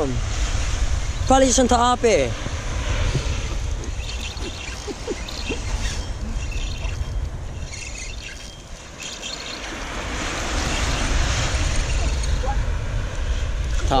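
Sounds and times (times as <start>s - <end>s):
surf washing on shore: 0.0s - 14.0s.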